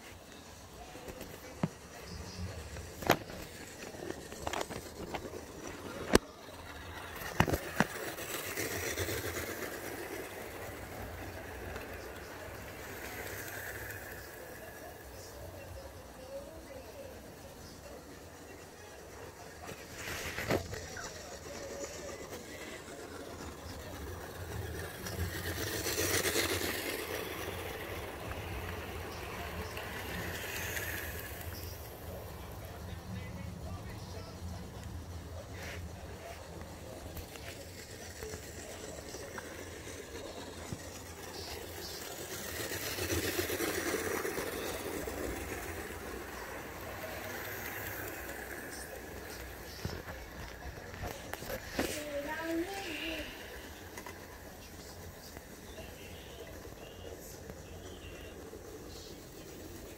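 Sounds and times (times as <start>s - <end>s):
model steam locomotive running: 0.0s - 59.9s.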